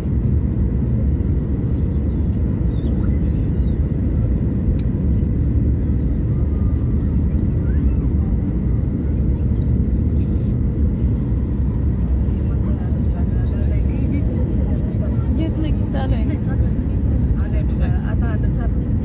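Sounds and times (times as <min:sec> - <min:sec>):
jet engine and airflow rumble: 0:00.0 - 0:19.0.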